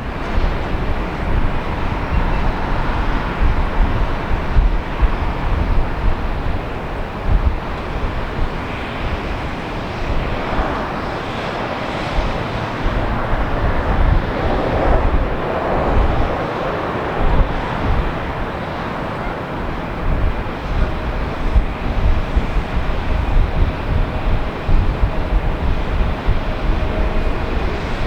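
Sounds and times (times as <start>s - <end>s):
jet airliner engine: 0.0s - 28.0s
wind buffeting microphone: 0.0s - 28.0s.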